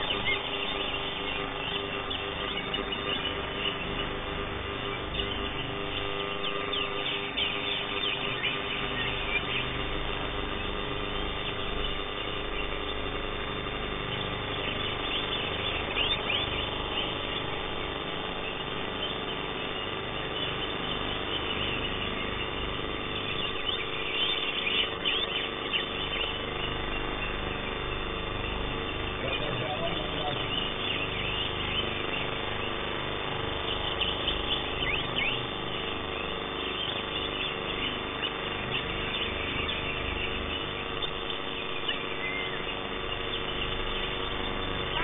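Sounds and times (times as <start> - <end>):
steady electrical hum: 0.0 - 45.0.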